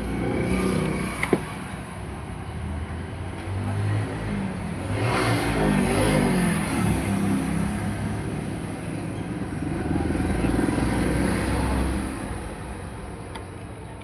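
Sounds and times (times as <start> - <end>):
vehicle engines passing by: 0.0 - 14.0.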